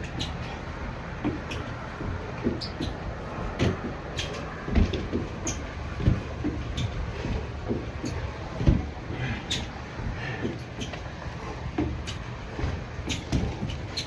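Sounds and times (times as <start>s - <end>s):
dull thuds on a balance ball: 1.1s - 14.0s.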